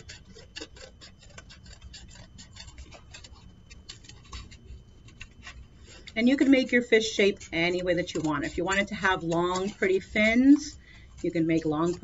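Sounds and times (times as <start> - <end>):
scissors cutting cardboard: 0.0 - 12.0.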